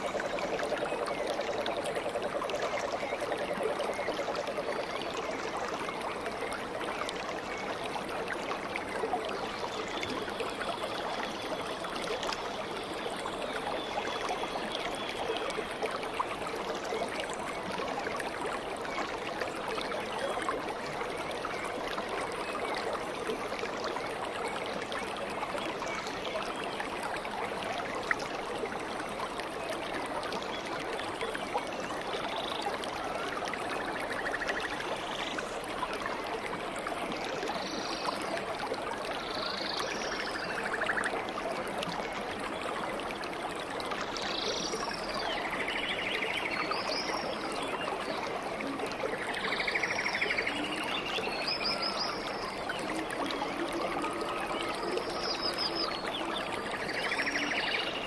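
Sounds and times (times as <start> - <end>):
stream water gurgling over stones: 0.0 - 58.0.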